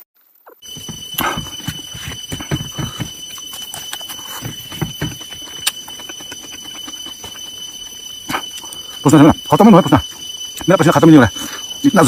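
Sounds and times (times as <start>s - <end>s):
steady high whine: 0.5s - 12.0s.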